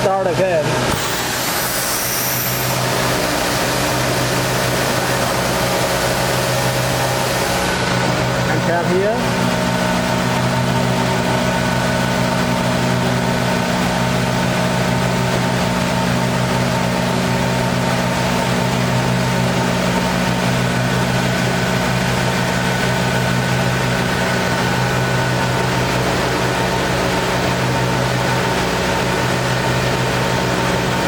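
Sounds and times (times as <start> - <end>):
woodworking machine motors humming: 0.1 - 31.0.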